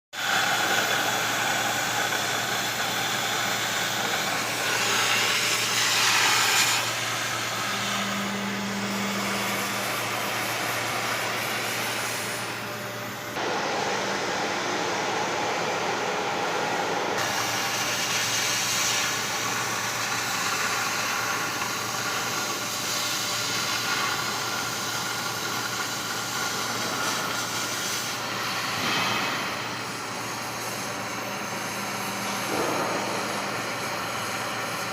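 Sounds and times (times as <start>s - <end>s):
machine hum: 0.2s - 21.4s, 25.2s - 34.9s.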